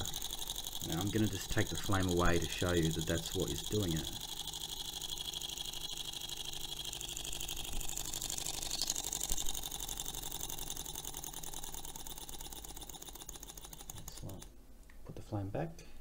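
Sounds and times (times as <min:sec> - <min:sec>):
model engine rapid mechanical ticking: 0:00.0 - 0:14.5.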